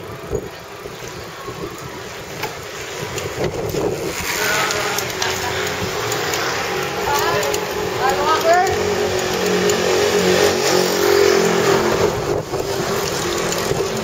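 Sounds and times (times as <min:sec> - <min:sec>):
bike tyre and rattle noise: 0:00.0 - 0:14.0
wind rushing over microphone: 0:00.0 - 0:14.0.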